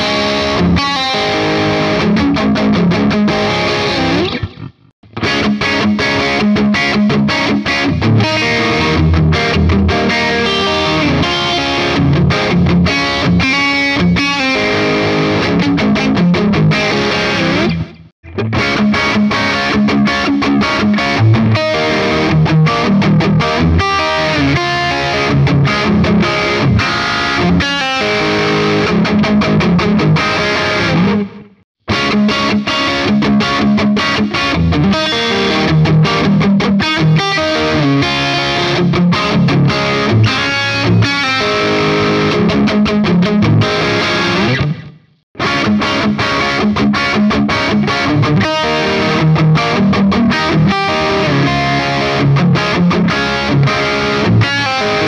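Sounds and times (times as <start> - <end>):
distorted electric guitar riffs: 0.0 - 55.0.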